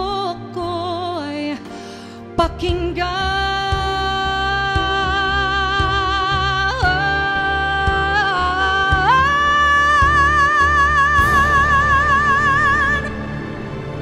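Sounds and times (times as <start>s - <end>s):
backing music: 0.0s - 14.0s.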